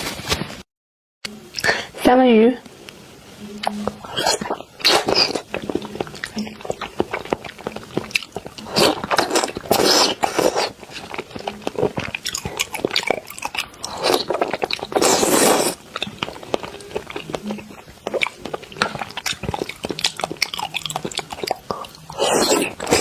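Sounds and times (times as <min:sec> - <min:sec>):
wet chewing and mouth smacking: 0:03.6 - 0:23.0.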